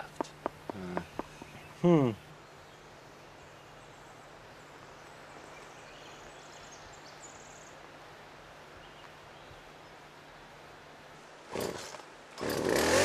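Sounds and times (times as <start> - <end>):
steady hiss and low hum: 0.0 - 12.5.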